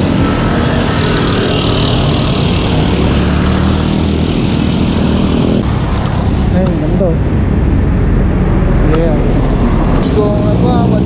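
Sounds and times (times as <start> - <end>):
motorcycles and cars passing close: 0.0 - 11.0
road traffic noise: 0.0 - 11.0.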